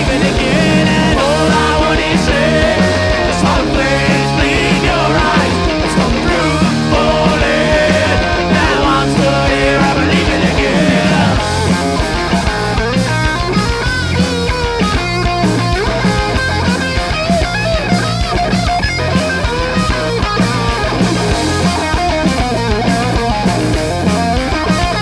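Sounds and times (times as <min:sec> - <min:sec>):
bass notes: 0:00.0 - 0:25.0
drums: 0:00.0 - 0:25.0
electric guitar: 0:00.0 - 0:25.0.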